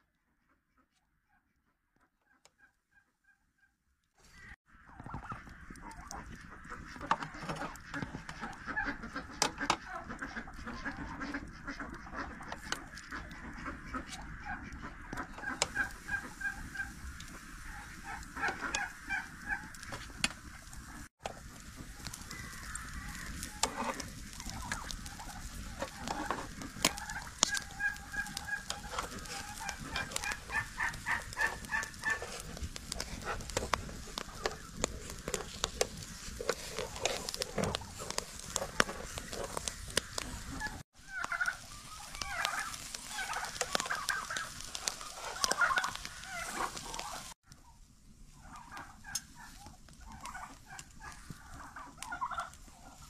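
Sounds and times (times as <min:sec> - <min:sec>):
poultry calling: 0:02.3 - 0:47.4, 0:48.4 - 0:53.0.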